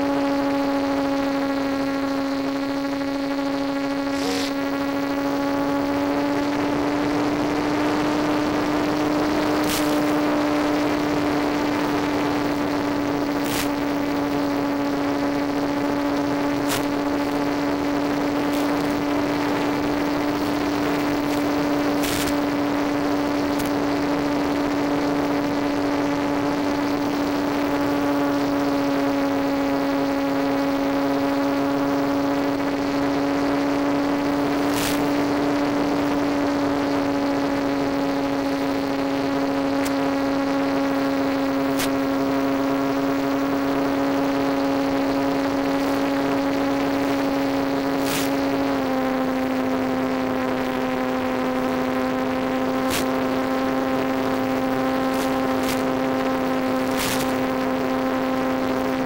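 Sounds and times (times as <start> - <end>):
electric propeller motor drone: 0.0 - 59.0
radio static clicks: 0.4 - 59.0.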